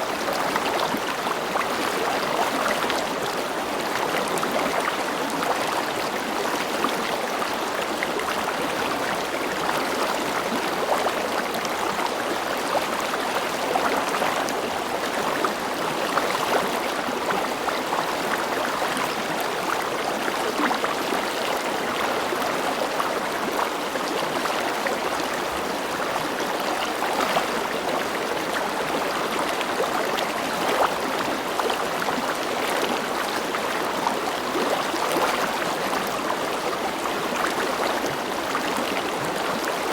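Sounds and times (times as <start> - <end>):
small water splashes and gurgles: 0.0 - 39.9.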